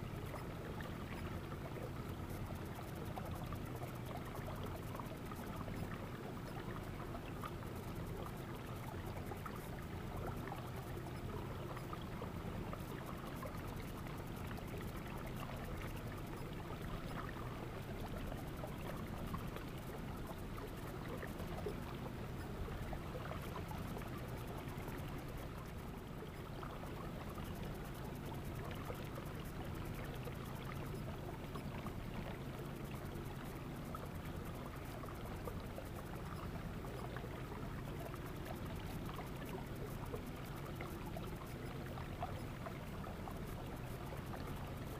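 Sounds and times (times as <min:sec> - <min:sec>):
water lapping along hull: 0:00.0 - 0:44.9.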